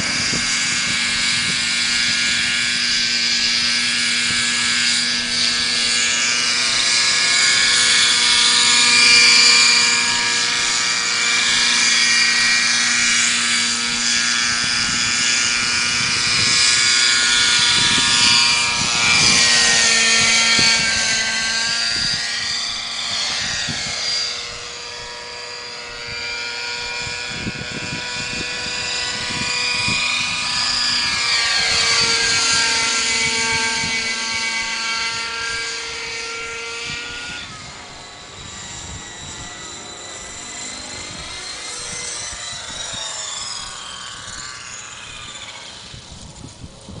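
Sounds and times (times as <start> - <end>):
model helicopter engine: 0.0 - 47.0
rotor noise: 0.0 - 47.0.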